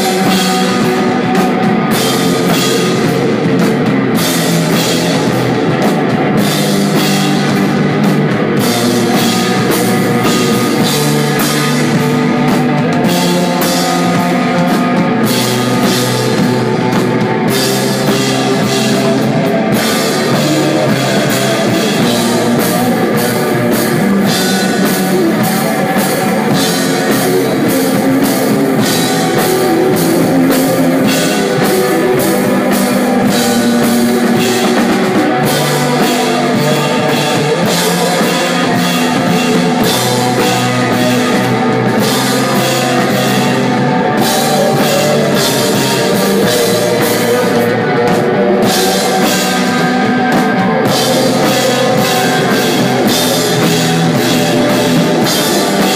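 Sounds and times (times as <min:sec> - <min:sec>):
drum kit beat: 0:00.0 - 0:55.9
electric guitar: 0:00.0 - 0:55.9.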